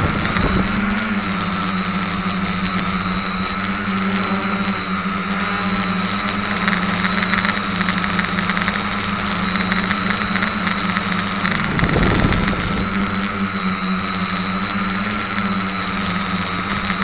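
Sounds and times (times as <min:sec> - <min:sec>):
low rush of noise: 0:00.0 - 0:17.0
quadcopter propellers buzzing: 0:00.0 - 0:17.0.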